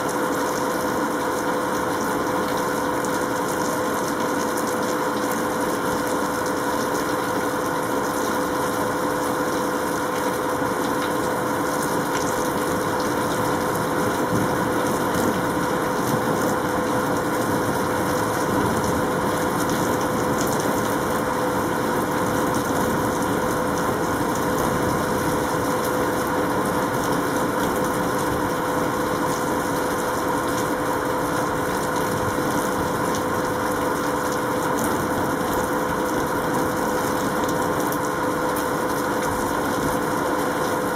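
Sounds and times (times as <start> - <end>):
mechanical hum: 0.0 - 40.9.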